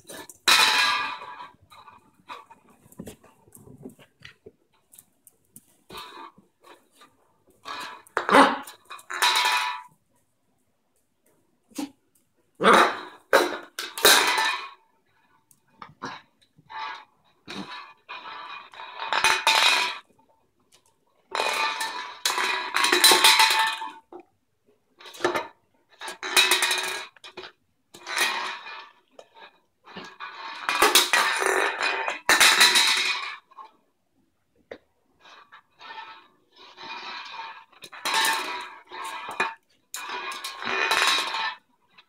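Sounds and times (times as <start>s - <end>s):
can rolling on tiled floor: 0.0s - 5.0s, 5.6s - 10.0s, 12.6s - 14.8s, 15.8s - 20.1s, 20.8s - 24.3s, 25.0s - 33.8s, 34.7s - 42.0s.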